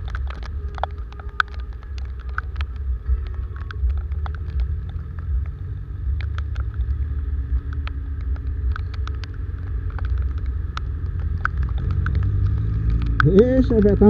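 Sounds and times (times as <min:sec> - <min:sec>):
motorcycle engine rumble: 0:00.0 - 0:14.0
raindrops tapping on camera: 0:00.0 - 0:14.0.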